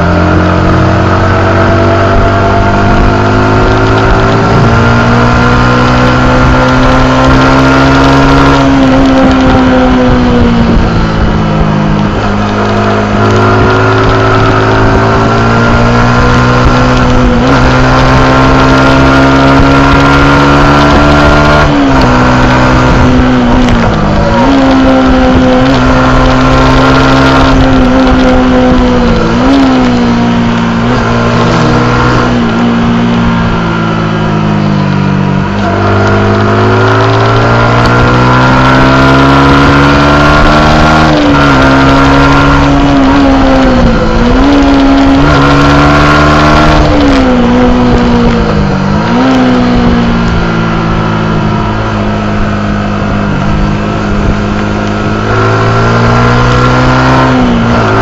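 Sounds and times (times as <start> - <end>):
motorcycle engine revving high: 0.0 - 58.0.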